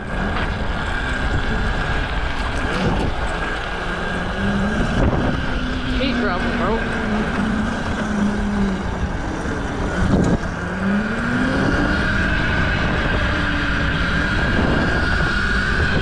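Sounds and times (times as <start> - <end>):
high whine: 0.0 - 16.0
riding noise rumble: 0.0 - 16.0
small engine running: 0.0 - 16.0.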